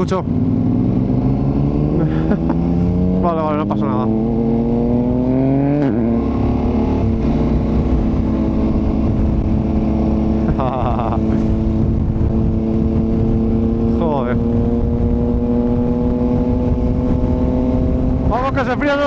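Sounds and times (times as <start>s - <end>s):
motorcycle engine accelerating: 0.0s - 19.0s
wind and road rumble: 0.0s - 19.0s.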